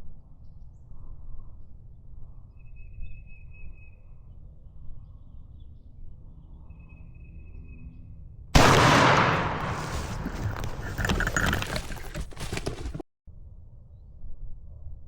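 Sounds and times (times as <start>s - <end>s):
woodland ambience rumble: 0.0s - 15.0s.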